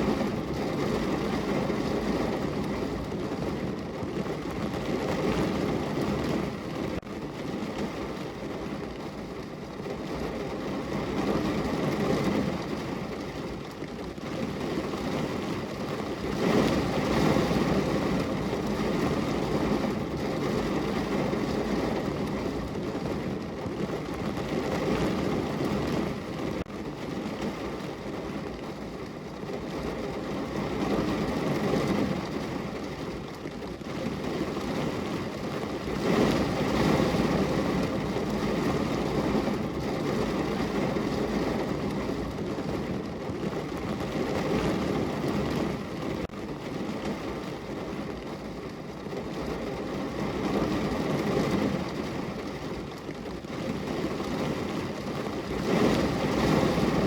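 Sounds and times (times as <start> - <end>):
heavy rain drumming on car roof: 0.0 - 57.0.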